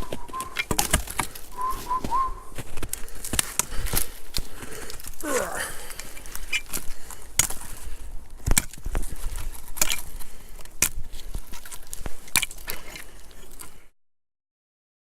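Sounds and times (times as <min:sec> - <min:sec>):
firewood being stacked: 0:00.0 - 0:13.8.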